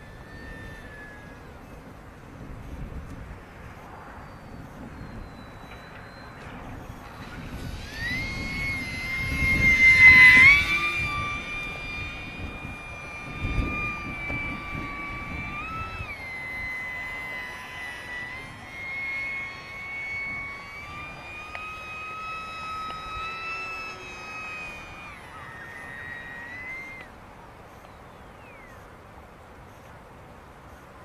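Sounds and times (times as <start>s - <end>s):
wind buffeting microphone: 0.0s - 27.2s
model plane motor whine: 0.0s - 30.0s.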